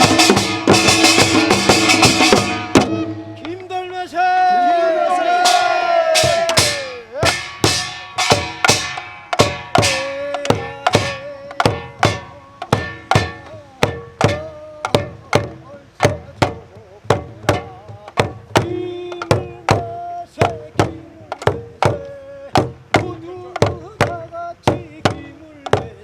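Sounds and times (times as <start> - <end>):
percussion struck in steady beat: 0.0 - 3.6, 5.4 - 26.0.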